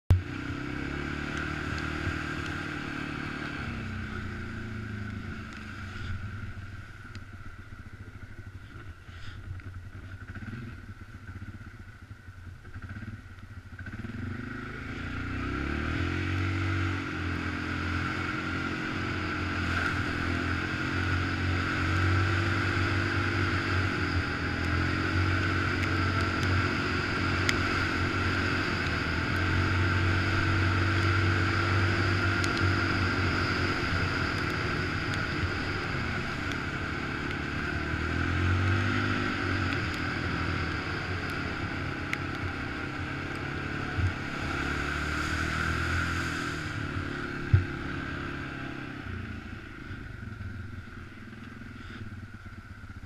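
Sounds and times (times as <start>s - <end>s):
atv engine running: 0.1s - 53.0s.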